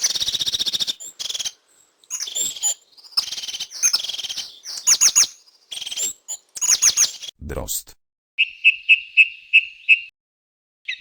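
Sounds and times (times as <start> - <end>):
bird calling with high trills: 0.0 - 7.3, 8.4 - 10.1.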